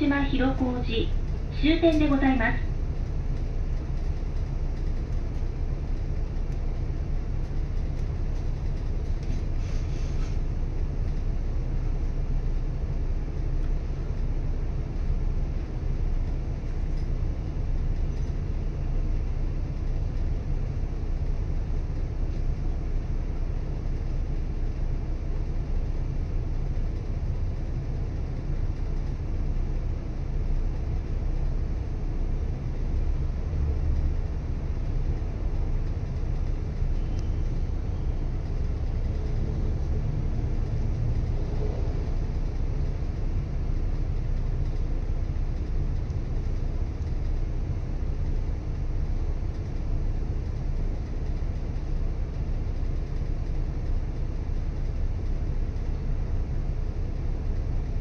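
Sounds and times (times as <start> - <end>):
bus engine idling: 0.0 - 58.0.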